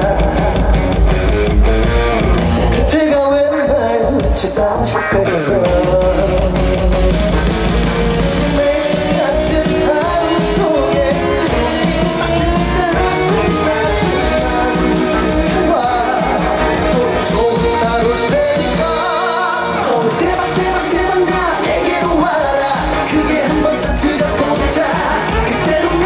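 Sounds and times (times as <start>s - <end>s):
man singing: 0.0s - 1.1s, 2.7s - 26.0s
upbeat backing music over pa: 0.0s - 26.0s.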